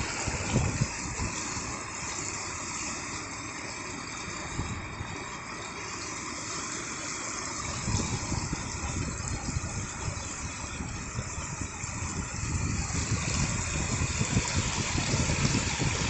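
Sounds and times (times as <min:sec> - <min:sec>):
floodwater rushing and churning: 0:00.0 - 0:16.0.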